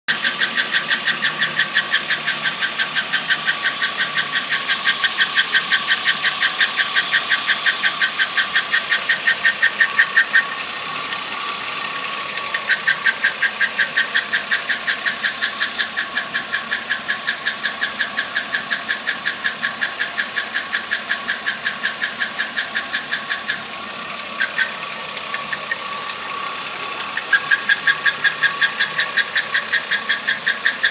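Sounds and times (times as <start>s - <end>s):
car engine running: 0.1s - 30.9s
fast even ticking: 0.1s - 30.9s.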